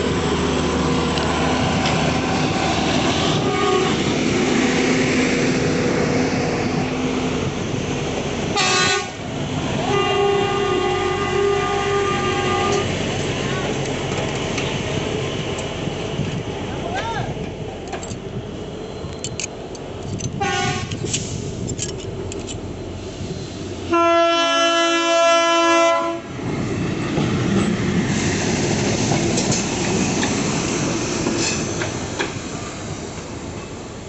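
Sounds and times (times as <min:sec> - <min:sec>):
rail machine rumble and wheel clatter: 0:00.0 - 0:34.0.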